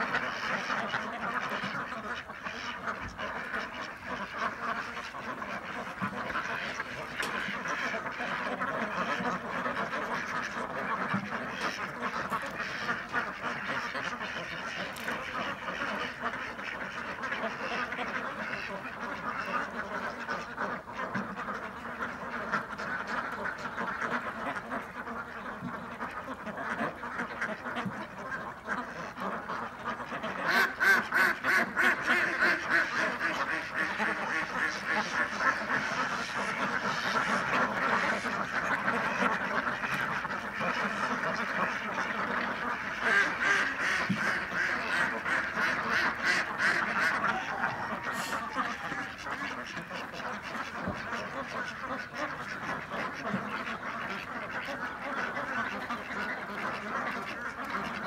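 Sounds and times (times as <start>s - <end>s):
ducks quacking: 0.0s - 58.0s.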